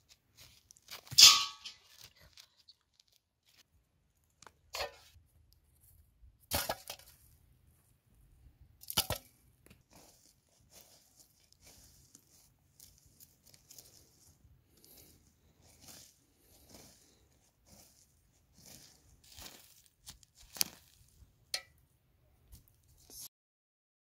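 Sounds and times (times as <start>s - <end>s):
stick scraping dry earth: 0.0s - 3.7s, 4.4s - 7.4s, 8.8s - 21.8s.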